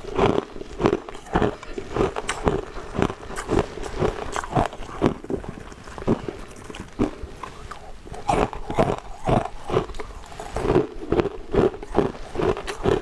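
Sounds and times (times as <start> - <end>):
ice cubes being chewed: 0.0 - 13.0.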